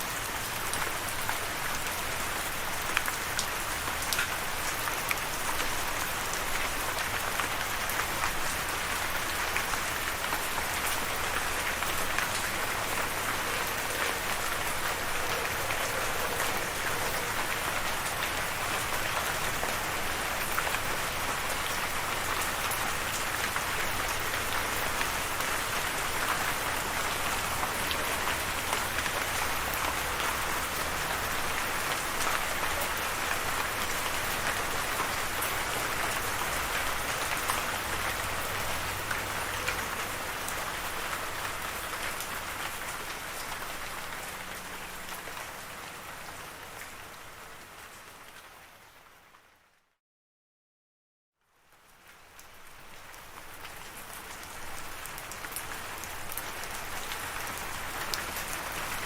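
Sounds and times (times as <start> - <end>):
steady rain falling: 0.0 - 49.9, 51.4 - 59.0.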